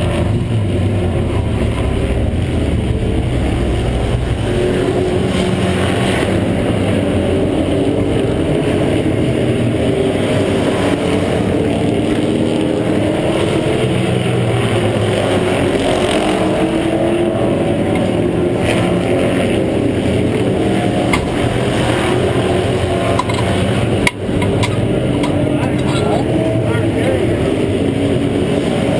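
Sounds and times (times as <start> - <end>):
pickup truck engine running: 0.0 - 28.9.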